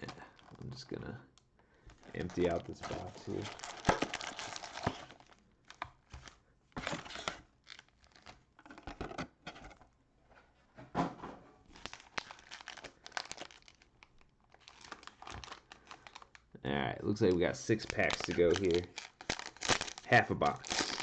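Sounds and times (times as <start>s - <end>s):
plastic wrappers crinkling: 0.0s - 0.8s, 1.9s - 9.0s, 11.7s - 21.0s.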